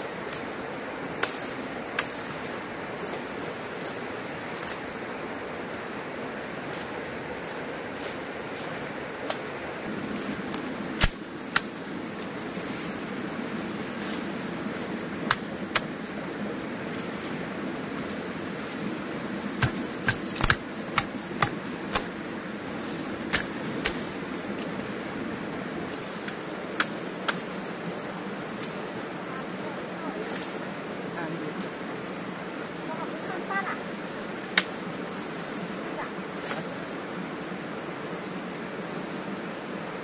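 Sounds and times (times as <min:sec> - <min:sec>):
steady rushing noise: 0:00.0 - 0:40.0.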